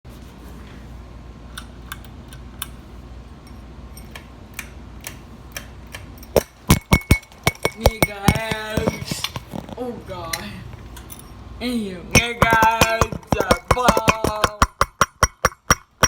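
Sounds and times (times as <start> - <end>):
ceiling fan humming and ticking: 0.1 - 16.0.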